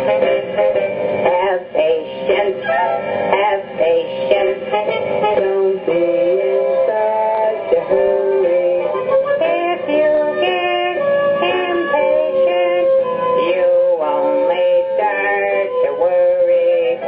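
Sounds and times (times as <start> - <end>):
children's song music: 0.0 - 17.0.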